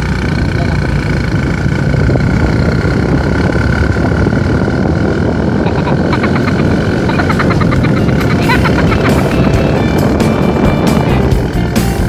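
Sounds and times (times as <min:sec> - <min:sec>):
motorcycle engine: 0:00.0 - 0:12.0
wind rushing over microphone: 0:00.0 - 0:12.0
rapid pulsing high sound: 0:01.0 - 0:12.0.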